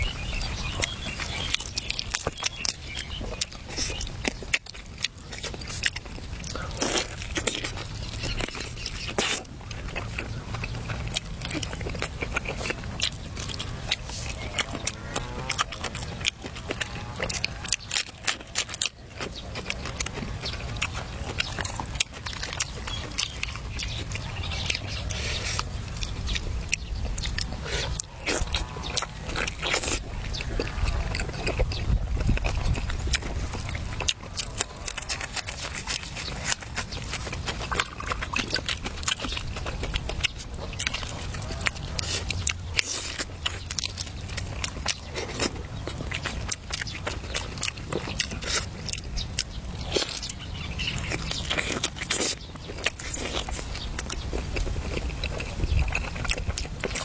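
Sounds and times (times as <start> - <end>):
food being bitten and chewed: 0.0 - 57.0.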